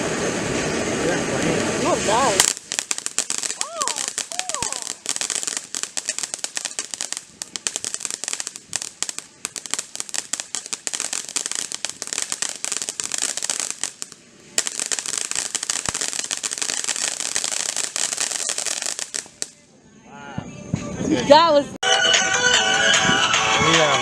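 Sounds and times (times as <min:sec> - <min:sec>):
fireworks crackling: 0:00.0 - 0:19.7, 0:23.1 - 0:24.0.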